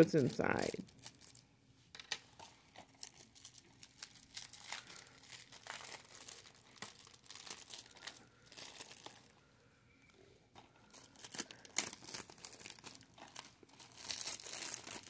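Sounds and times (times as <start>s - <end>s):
plastic wrap crinkling and tearing: 0.0s - 1.4s, 2.3s - 9.3s, 10.8s - 15.0s.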